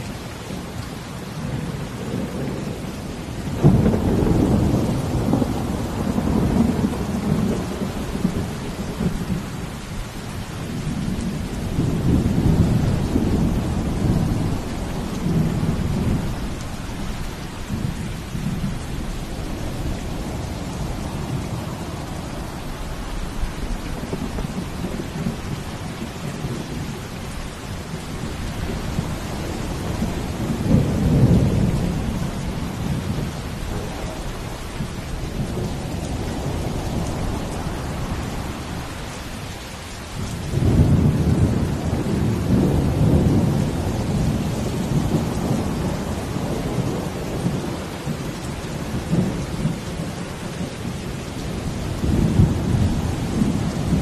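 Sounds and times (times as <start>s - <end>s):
heavy rain hiss: 0.0s - 54.0s
deep thunder rumbles: 1.4s - 9.7s, 10.7s - 39.0s, 40.2s - 54.0s.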